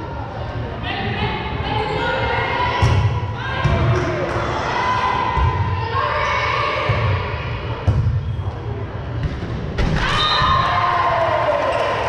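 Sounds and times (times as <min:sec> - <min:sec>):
crowd noise: 0:00.0 - 0:12.0.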